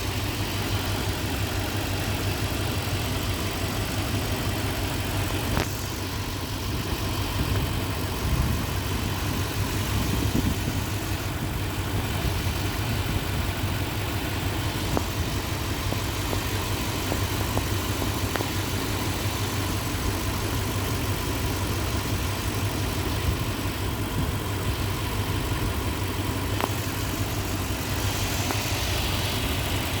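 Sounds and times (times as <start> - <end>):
truck engine idling: 0.0 - 30.0.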